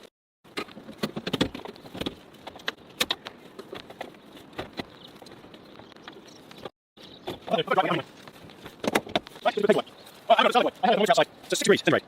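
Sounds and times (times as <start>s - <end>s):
camping gear clicking and rattling: 0.0s - 12.0s.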